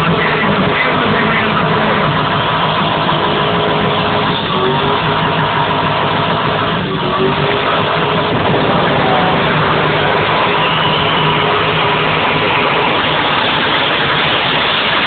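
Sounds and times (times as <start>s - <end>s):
car engine running loud: 0.0s - 15.0s
tyres spinning on track: 0.0s - 15.0s.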